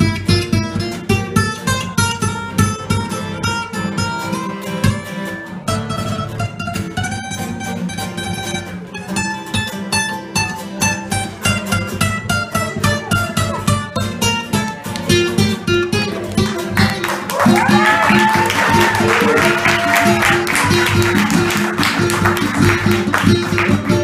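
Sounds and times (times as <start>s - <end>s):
picked guitar lead line: 0.0s - 24.0s
strummed acoustic guitar: 0.0s - 24.0s.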